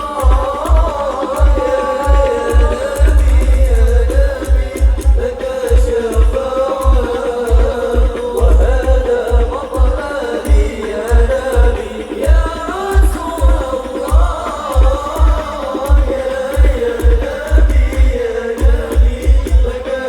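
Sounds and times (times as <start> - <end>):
deep drum beat: 0.0 - 19.9
person singing devotional song: 0.0 - 20.0.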